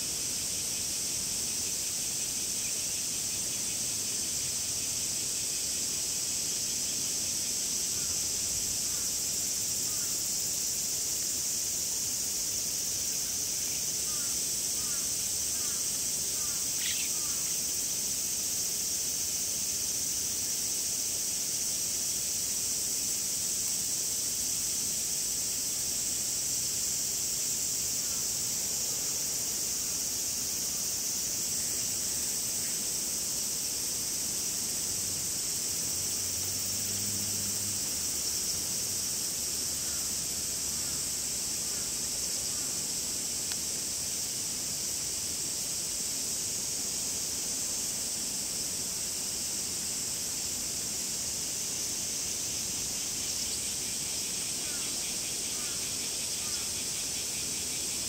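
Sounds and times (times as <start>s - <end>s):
cicadas calling: 0.0s - 58.0s.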